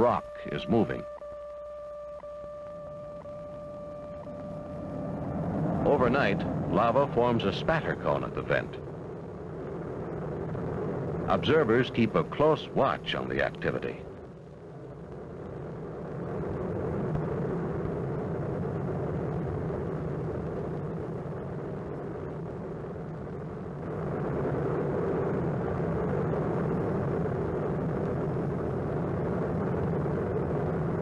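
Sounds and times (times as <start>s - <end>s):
lava vent rushing: 2.9s - 31.0s.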